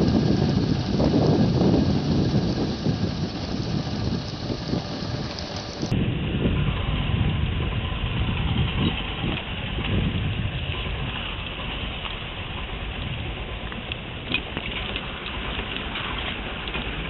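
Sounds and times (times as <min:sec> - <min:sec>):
traffic rumble on a wet road: 0:00.0 - 0:17.0.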